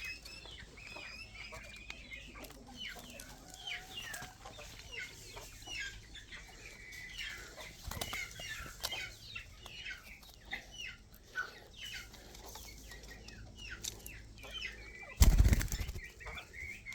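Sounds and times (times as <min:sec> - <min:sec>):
quail chirping: 0:00.0 - 0:16.9.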